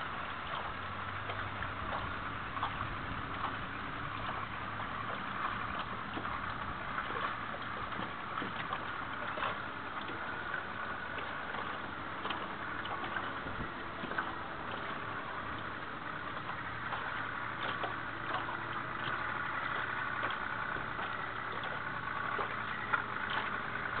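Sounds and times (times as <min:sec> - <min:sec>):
faint low engine hum: 0:00.0 - 0:24.0
moving river water: 0:00.0 - 0:24.0
wind: 0:00.0 - 0:24.0.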